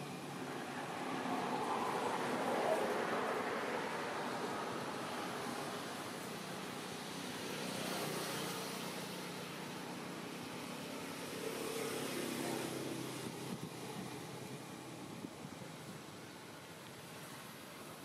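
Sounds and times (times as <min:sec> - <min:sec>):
distant road traffic: 0:00.0 - 0:18.0.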